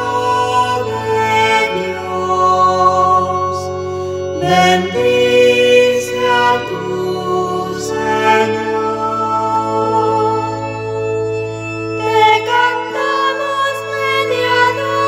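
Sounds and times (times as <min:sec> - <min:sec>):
choir singing a hymn: 0:00.0 - 0:15.0
organ-like chords: 0:00.0 - 0:15.0.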